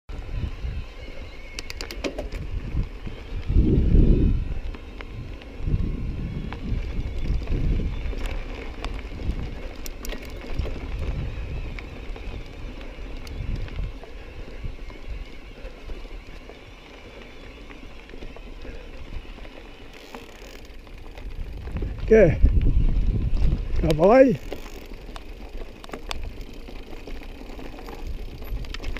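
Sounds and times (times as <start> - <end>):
bike clicks and rattles: 0.1 - 28.9
wind buffeting microphone: 0.1 - 28.9.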